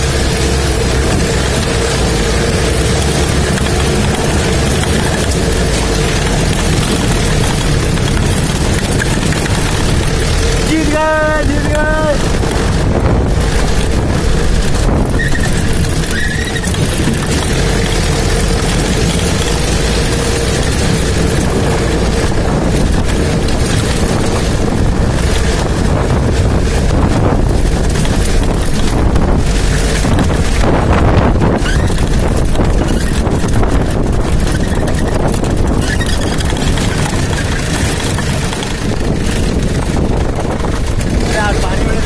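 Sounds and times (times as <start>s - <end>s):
jeep engine and tyre noise: 0.0s - 42.0s
wind buffeting microphone: 0.0s - 42.0s.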